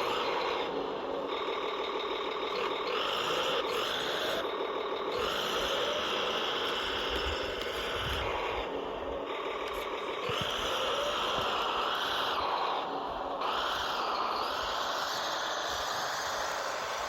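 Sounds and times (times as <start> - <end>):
tracked vehicle motor whir: 0.0 - 17.0.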